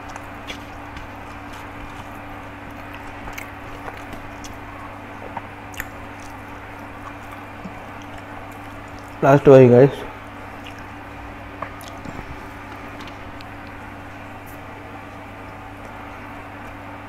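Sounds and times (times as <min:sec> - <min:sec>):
chewing: 0:00.0 - 0:09.2, 0:10.2 - 0:16.8
steady low hum: 0:00.0 - 0:17.0.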